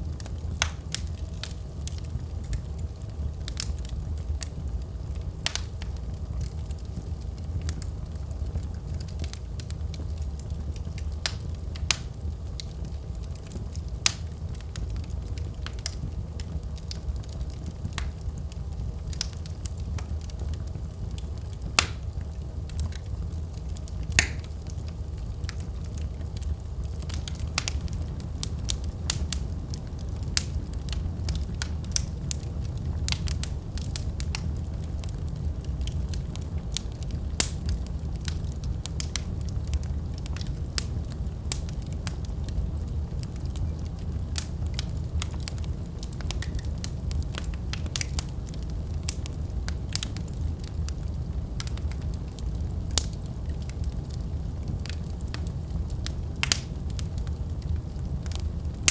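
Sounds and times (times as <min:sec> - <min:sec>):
fire flames rumbling: 0:00.0 - 0:58.9
wood fire crackling and popping: 0:00.0 - 0:58.9.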